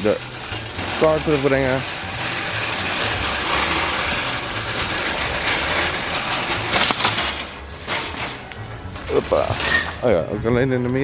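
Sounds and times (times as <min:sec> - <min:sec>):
shopping cart clanks: 0:00.0 - 0:10.4
shopping cart rattling: 0:00.0 - 0:10.4.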